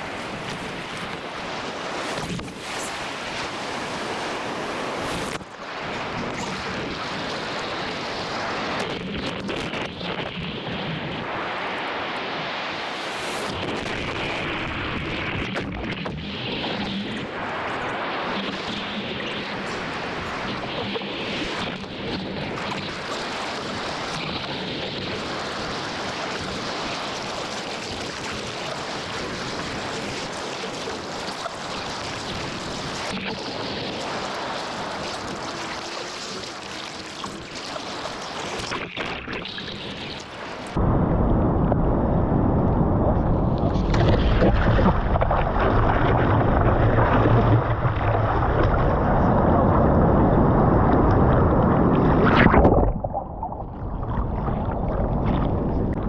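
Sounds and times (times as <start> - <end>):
ocean surf rushing: 0.0 - 8.8, 10.5 - 15.4, 16.2 - 21.7, 24.9 - 38.7, 39.7 - 53.2
wind noise on microphone: 0.0 - 56.0.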